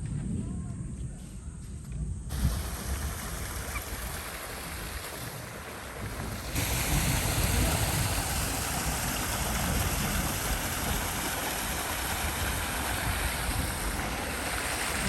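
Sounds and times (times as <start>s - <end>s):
stream rushing over rocks: 2.3s - 15.0s.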